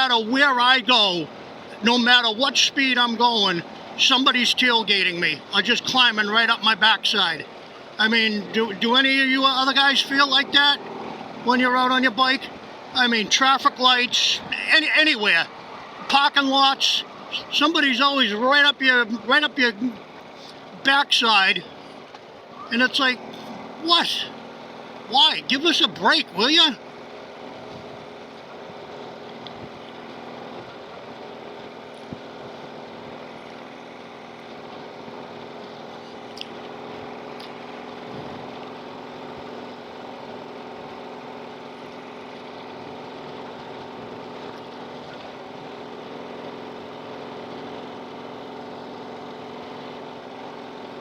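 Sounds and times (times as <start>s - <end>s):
wind and road noise: 0.0s - 51.0s.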